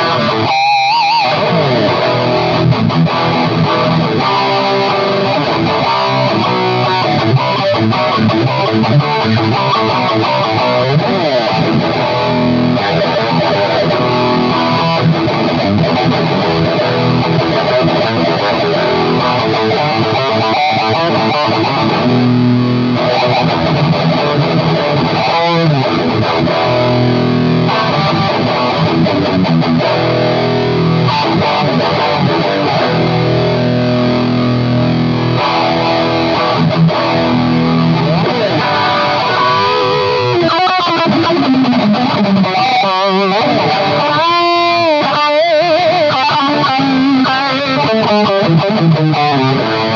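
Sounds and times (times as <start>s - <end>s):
distorted electric guitar riffs: 0.0s - 49.9s.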